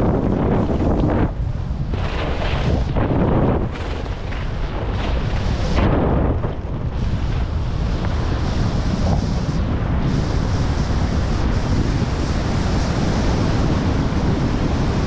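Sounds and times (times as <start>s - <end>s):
skis carving through snow: 0.0s - 15.0s
wind buffeting microphone: 0.0s - 15.0s.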